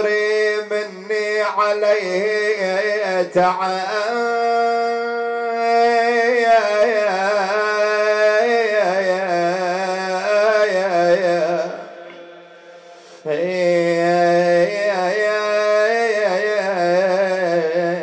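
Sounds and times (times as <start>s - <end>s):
man chanting unaccompanied: 0.0s - 12.5s, 13.2s - 18.0s.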